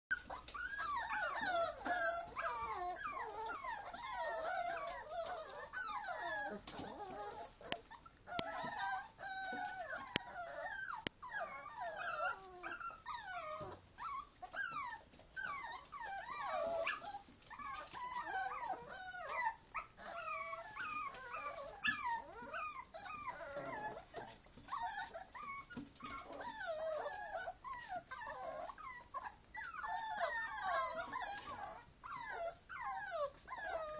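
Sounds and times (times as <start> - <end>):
puppies whining and whimpering: 0.1 - 33.9.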